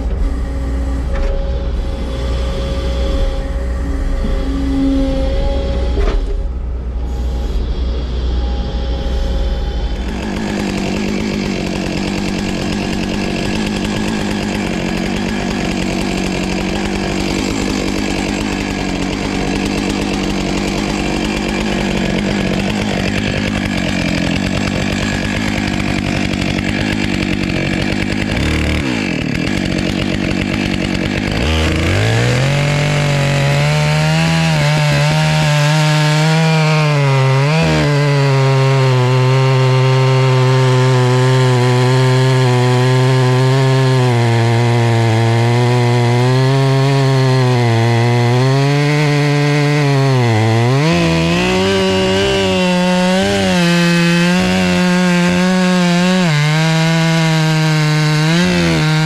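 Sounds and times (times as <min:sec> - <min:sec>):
chainsaw cutting log: 0:00.0 - 0:06.6, 0:09.0 - 0:59.0.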